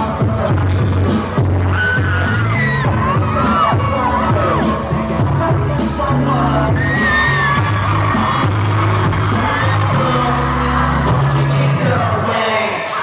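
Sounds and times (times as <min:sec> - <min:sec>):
fans cheering and whooping: 0:00.0 - 0:13.0
person singing: 0:00.0 - 0:13.0
pop music through speakers: 0:00.0 - 0:13.0.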